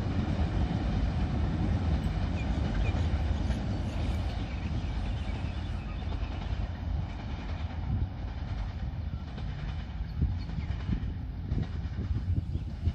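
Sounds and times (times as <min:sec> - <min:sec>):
train rumble: 0:00.0 - 0:12.9
train wheel clatter: 0:00.0 - 0:12.9.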